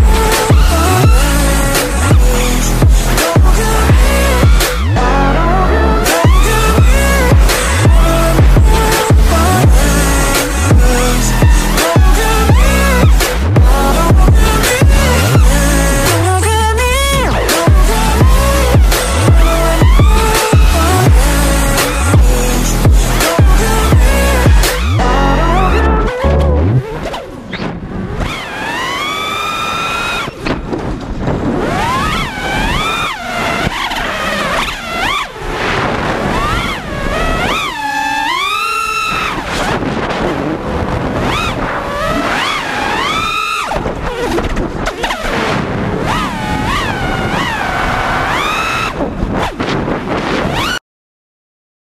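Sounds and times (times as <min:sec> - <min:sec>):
drone motors whining: 0:00.0 - 0:49.6.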